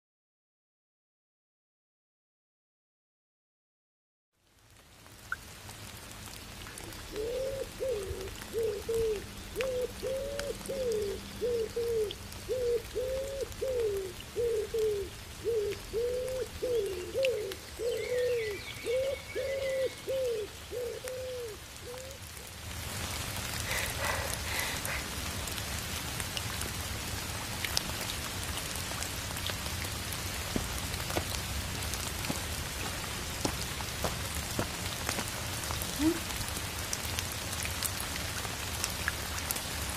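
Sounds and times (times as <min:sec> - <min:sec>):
rain falling: 0:04.4 - 0:39.9.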